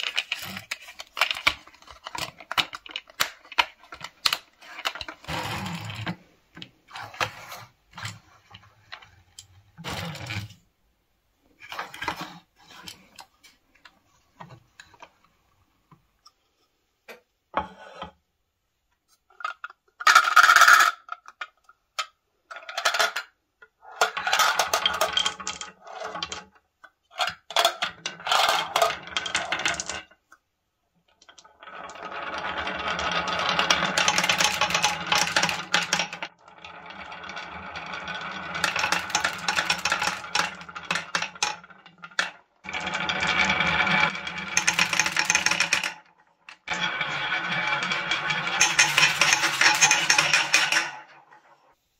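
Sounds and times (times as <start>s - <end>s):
balls rolling on wooden tracks: 0.0s - 10.7s, 11.6s - 16.0s, 22.5s - 30.3s, 31.2s - 51.8s.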